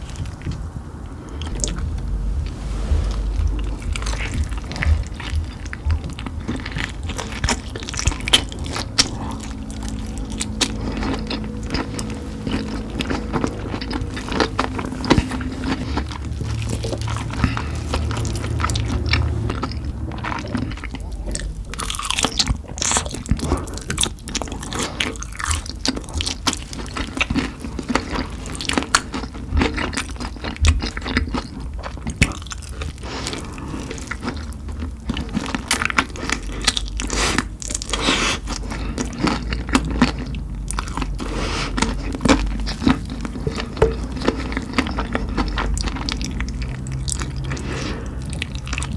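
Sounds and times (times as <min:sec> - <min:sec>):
crunching and chewing food: 0:00.0 - 0:48.9.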